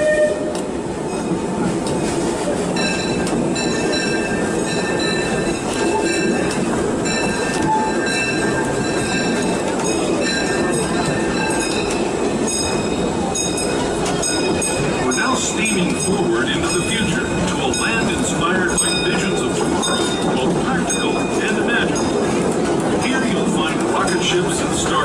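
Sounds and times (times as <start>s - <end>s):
train cars rumbling: 0.0s - 25.0s.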